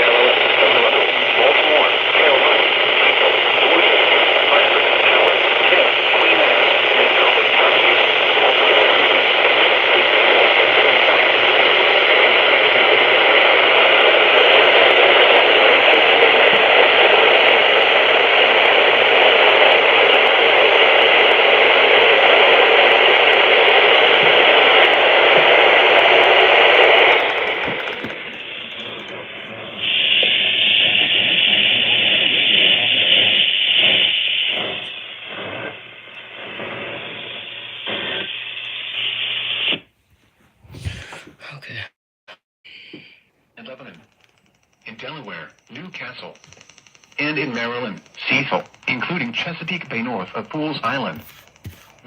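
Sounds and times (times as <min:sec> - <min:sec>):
radio static hiss: 0:00.0 - 0:39.9, 0:40.7 - 0:41.9, 0:42.8 - 0:52.0.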